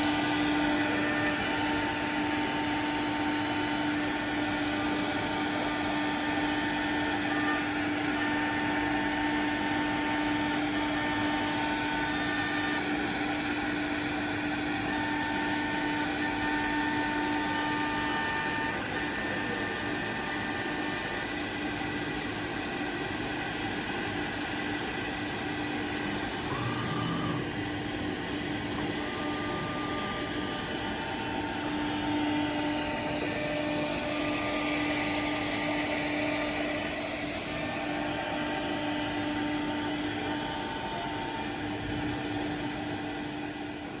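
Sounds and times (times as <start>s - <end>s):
drilling and milling machine humming: 0.0s - 44.0s
high machine whine: 0.0s - 44.0s.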